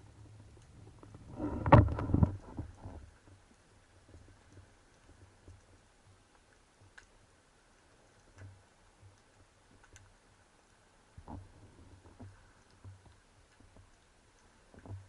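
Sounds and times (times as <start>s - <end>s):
faint clicks: 0.2s - 15.0s.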